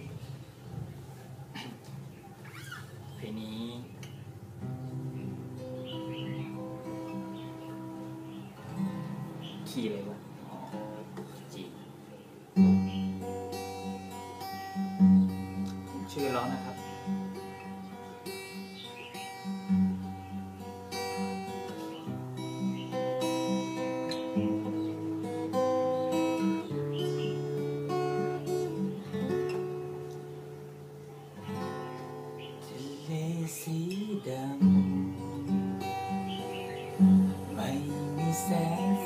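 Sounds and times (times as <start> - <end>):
acoustic guitar strumming chords: 0.0 - 39.0.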